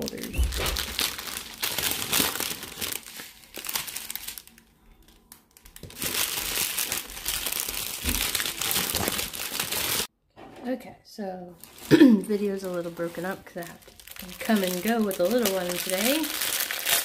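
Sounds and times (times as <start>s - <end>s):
plastic bags crinkling: 0.0s - 10.1s, 11.6s - 17.0s.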